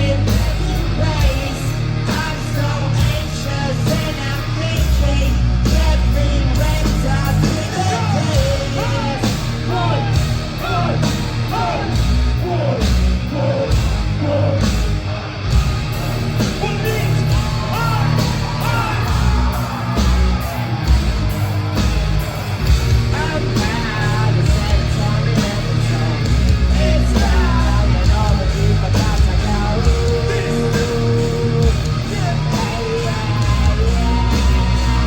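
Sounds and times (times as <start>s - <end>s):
heavy metal band playing: 0.0s - 35.0s.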